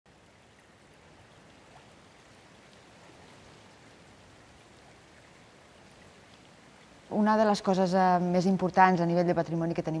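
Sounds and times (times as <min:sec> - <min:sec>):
water flowing along a canal: 0:00.1 - 0:10.0.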